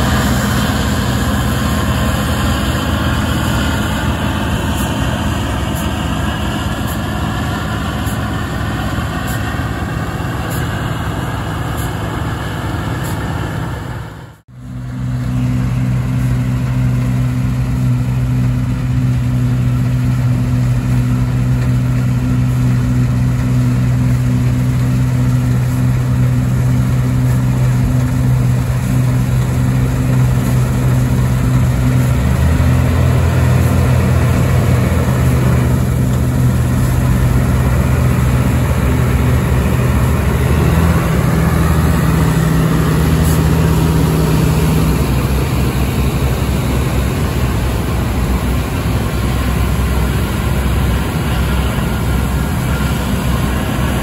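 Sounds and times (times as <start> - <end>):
combine harvester engine: 0.0 - 54.0
low engine note: 0.0 - 54.0
tractor running: 0.0 - 54.0.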